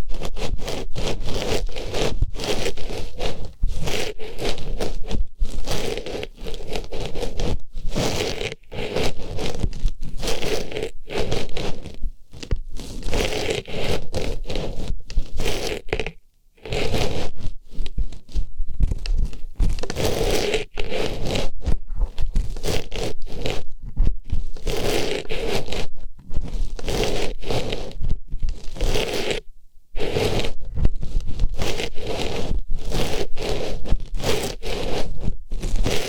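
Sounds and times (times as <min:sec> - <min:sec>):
scratchy rustling on microphone: 0:00.0 - 0:36.0.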